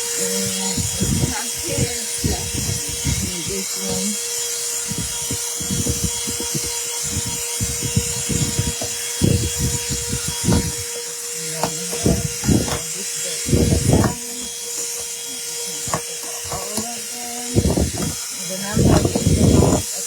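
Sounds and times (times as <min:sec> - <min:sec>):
car vacuum cleaner running: 0:00.0 - 0:20.0
brush nozzle knocking and scrubbing: 0:00.2 - 0:10.9, 0:11.6 - 0:20.0.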